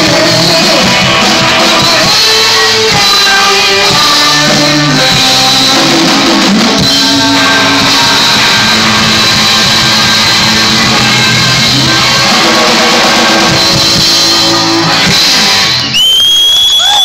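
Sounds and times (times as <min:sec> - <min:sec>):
electric guitar: 0:00.0 - 0:17.0
live rock band playing: 0:00.0 - 0:17.0.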